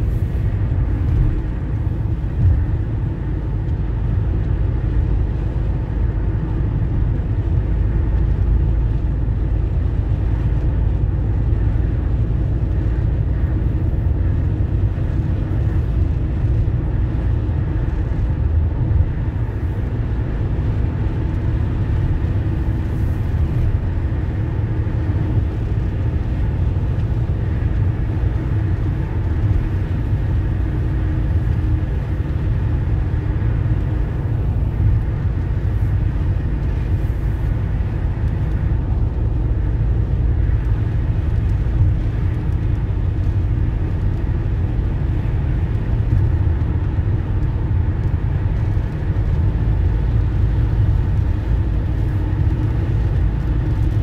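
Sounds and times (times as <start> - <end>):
road and engine rumble in car: 0.0 - 54.0.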